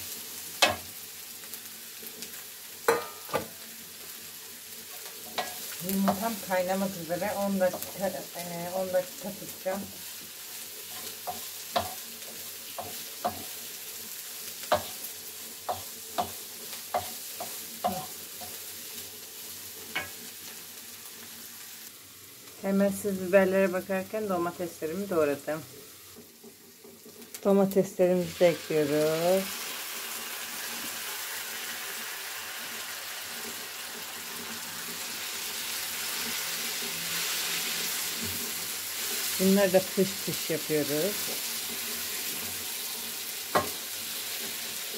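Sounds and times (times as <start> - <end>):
peppers sizzling in oil: 0.0 - 44.9.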